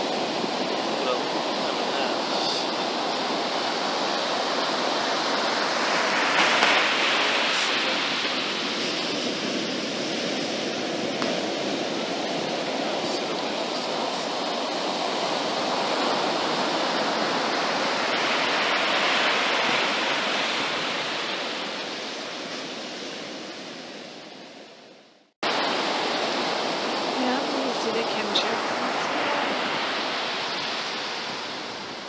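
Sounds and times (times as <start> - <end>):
ocean surf breaking on beach: 0.0 - 32.0.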